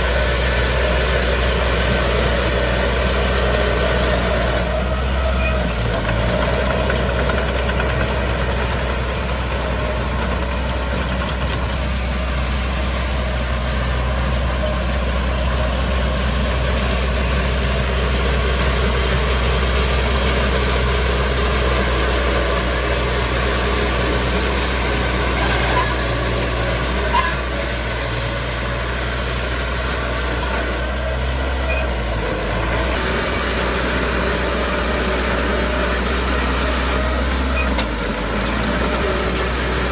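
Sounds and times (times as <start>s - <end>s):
heavy machinery engine rumbling: 0.0s - 39.9s.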